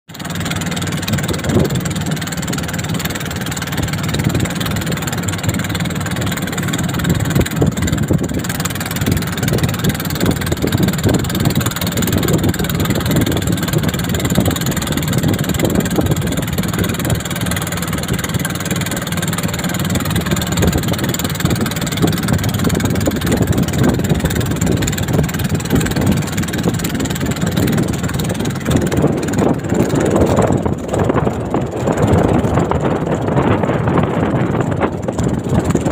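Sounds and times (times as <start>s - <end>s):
engine running roughly: 0.1s - 35.9s.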